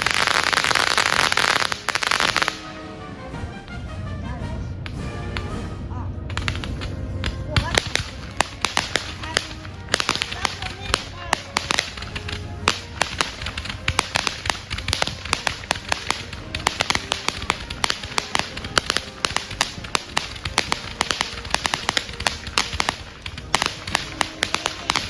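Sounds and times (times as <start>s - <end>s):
fireworks cracking and popping: 0.0s - 2.8s, 6.2s - 25.0s.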